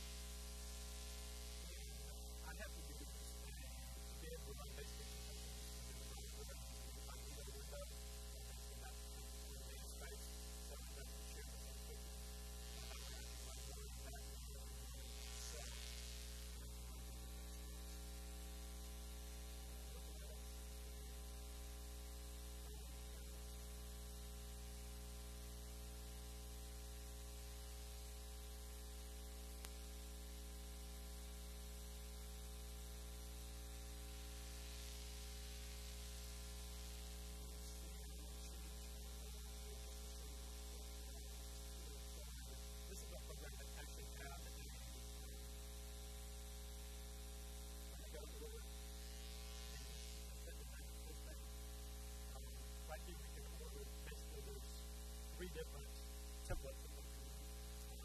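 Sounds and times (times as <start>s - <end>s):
faint hiss: 0.0s - 23.6s, 31.7s - 46.2s, 47.8s - 58.0s
electrical mains hum: 0.0s - 58.0s.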